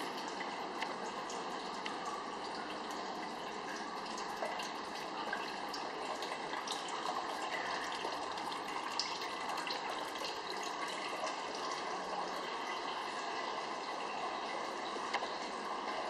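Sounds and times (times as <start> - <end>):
water rushing through pipes: 0.0 - 16.0.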